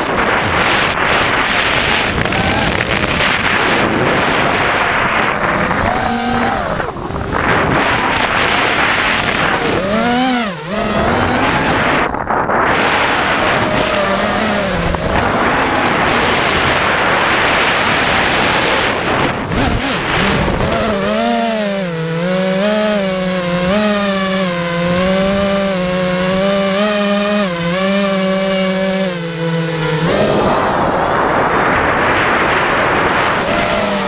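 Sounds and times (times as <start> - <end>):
drone motors buzzing whine: 0.0 - 34.0
rough rushing noise: 0.0 - 34.0.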